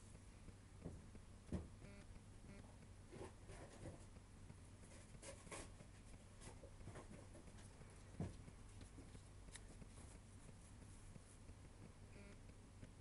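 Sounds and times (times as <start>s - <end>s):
faint rustles and clicks: 0.0s - 13.0s.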